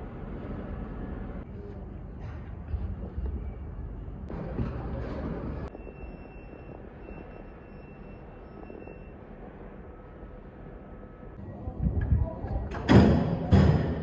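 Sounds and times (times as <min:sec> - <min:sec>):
quiet hum: 0:00.0 - 0:14.0.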